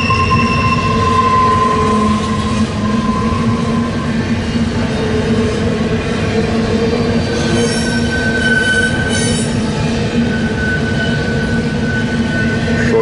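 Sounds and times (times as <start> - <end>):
freight train wheels rumbling: 0.0 - 13.0
high wheel squealing: 0.0 - 13.0.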